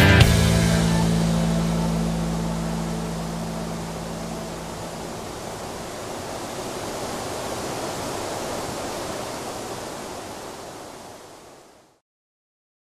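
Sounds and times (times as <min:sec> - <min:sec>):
steady rushing noise: 0:00.3 - 0:12.0.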